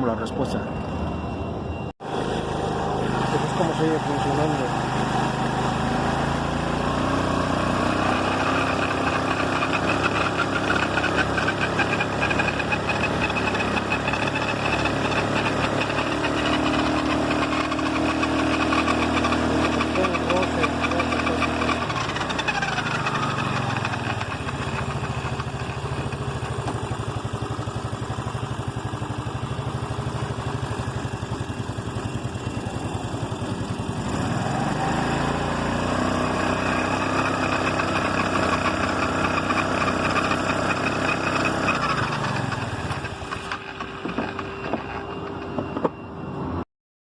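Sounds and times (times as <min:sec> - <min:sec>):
scooter engine revving and idling: 0:02.0 - 0:46.6.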